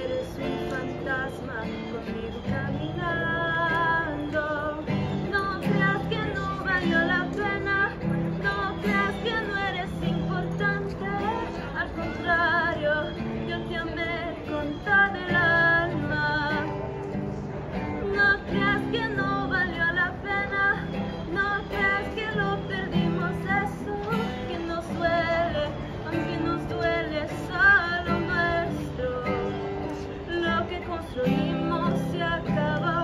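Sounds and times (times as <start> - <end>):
acoustic guitar: 0.0 - 33.0
woman singing slow melody: 0.0 - 33.0.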